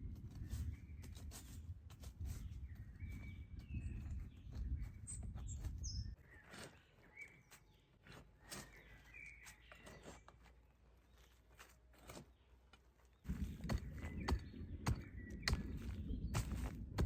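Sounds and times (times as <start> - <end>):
birds chirping: 2.2 - 17.0.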